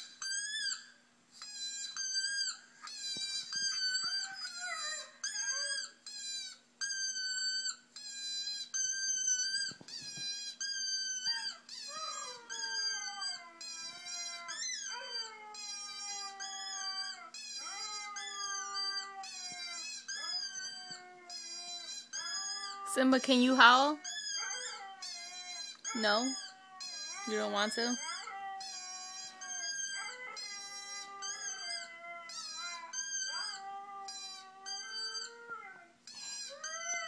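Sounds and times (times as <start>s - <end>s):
recorded dog howling: 2.0s - 6.0s, 8.7s - 37.0s.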